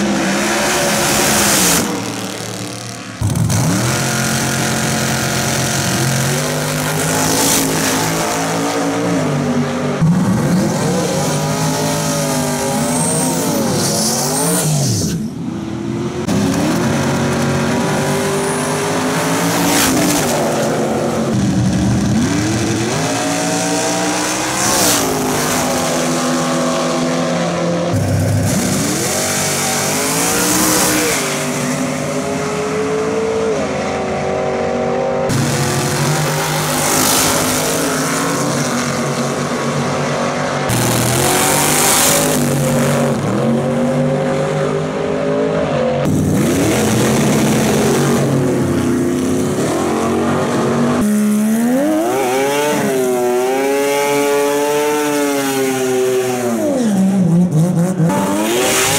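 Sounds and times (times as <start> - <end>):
drag race car engines revving: 0.0 - 58.9.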